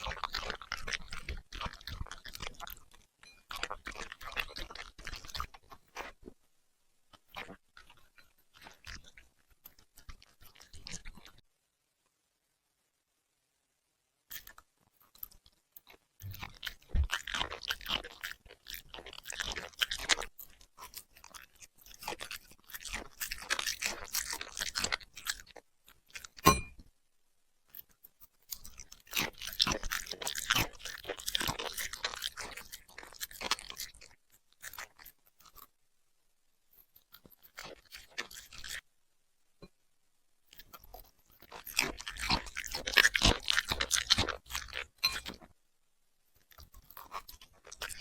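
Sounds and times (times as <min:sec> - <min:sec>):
puppy crunching food: 0:00.0 - 0:06.4, 0:07.1 - 0:11.4, 0:14.3 - 0:26.8, 0:27.7 - 0:35.7, 0:36.8 - 0:38.8, 0:40.5 - 0:45.5, 0:46.4 - 0:48.0.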